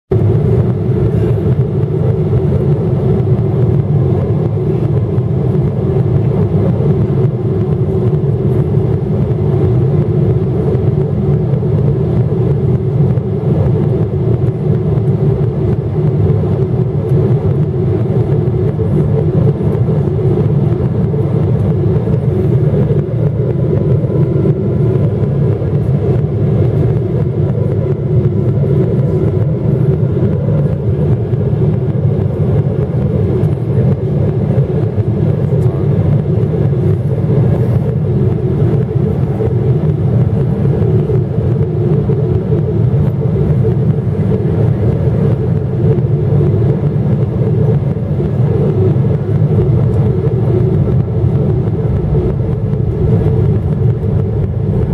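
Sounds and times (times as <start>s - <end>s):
airplane cabin engine drone: 0.1s - 54.9s.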